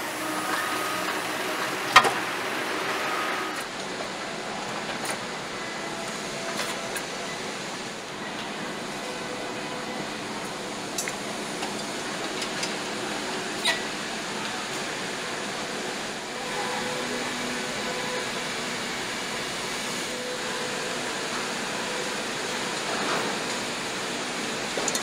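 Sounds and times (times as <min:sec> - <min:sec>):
machinery hum: 0:00.0 - 0:24.9.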